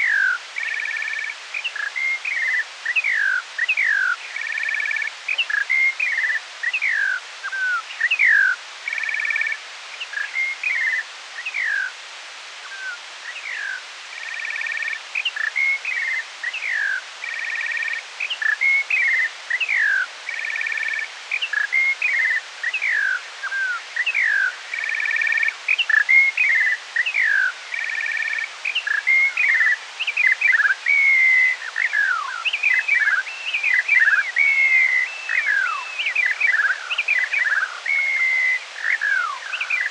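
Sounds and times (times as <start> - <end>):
slowed bird song whistles: 0.0 - 11.9, 12.6 - 39.9.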